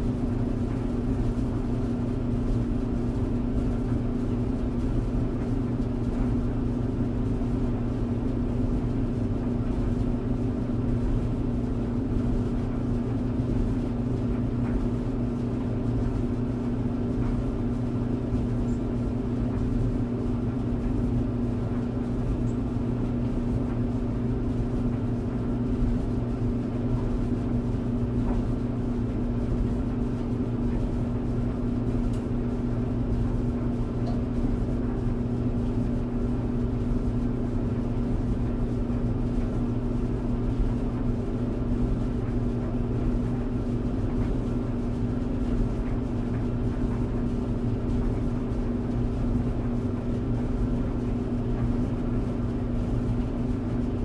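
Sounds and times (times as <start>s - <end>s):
tumble dryer motor hum: 0.0s - 54.0s.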